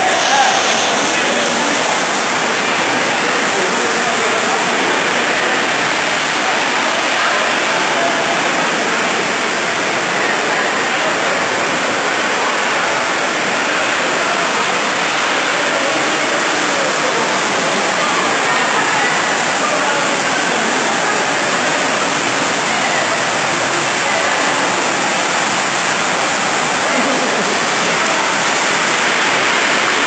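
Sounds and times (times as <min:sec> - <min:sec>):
rainwater rushing: 0:00.0 - 0:30.0.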